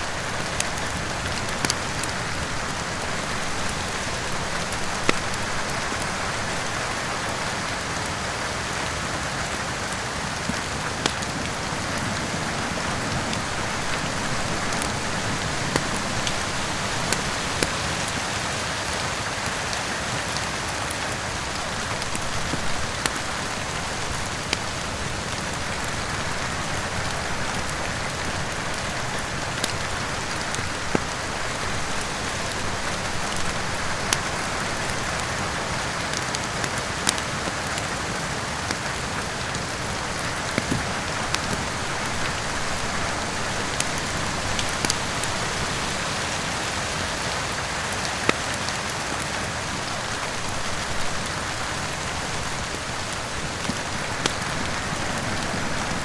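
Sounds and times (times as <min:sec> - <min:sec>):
heavy rain: 0:00.0 - 0:56.0
wood fire crackling and popping: 0:00.0 - 0:56.0.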